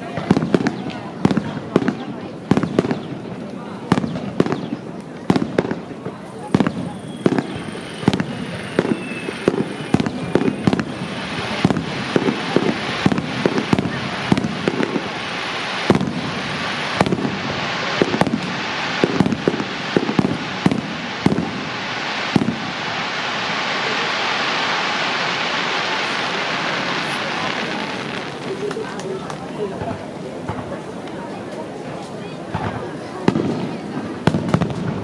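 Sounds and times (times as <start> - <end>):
fireworks crackling hiss: 0.0 - 35.0.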